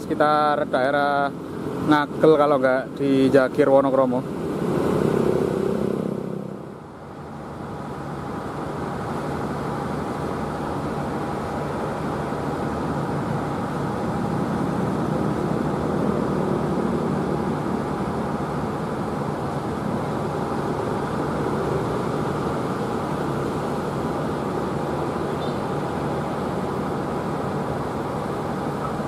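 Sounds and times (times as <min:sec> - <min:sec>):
diesel locomotive engine running: 0:00.0 - 0:29.0
different engine sound: 0:00.0 - 0:29.0.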